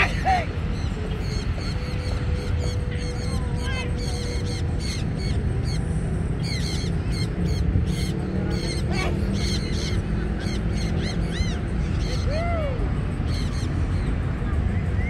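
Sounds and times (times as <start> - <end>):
high arching bird calls: 0.0 - 14.3
birds chirping: 0.0 - 15.0.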